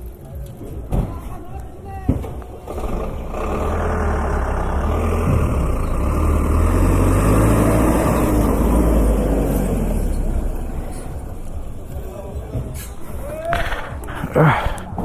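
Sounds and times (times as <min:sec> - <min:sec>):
road noise: 0:00.0 - 0:15.0
vehicle engine running: 0:02.0 - 0:15.0.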